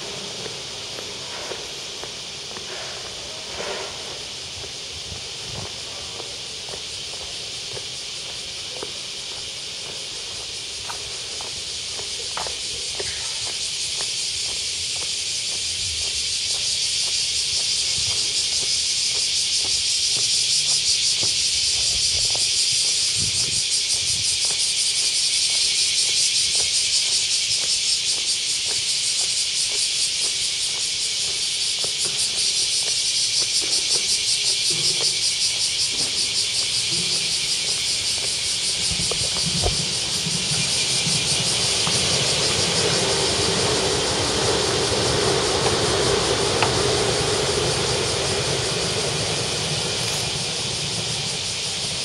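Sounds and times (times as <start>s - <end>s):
cicadas singing: 0.0s - 52.0s.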